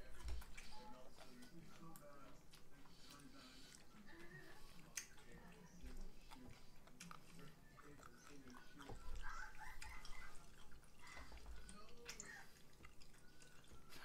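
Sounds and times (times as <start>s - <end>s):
murmured voices: 0.0s - 14.0s.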